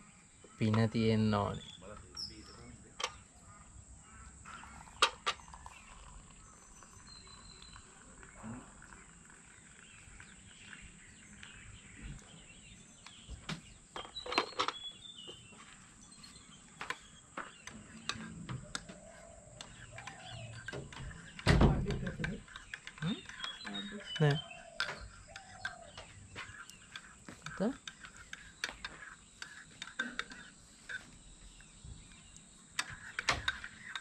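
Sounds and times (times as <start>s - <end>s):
faint bird chirps: 0.0s - 34.0s.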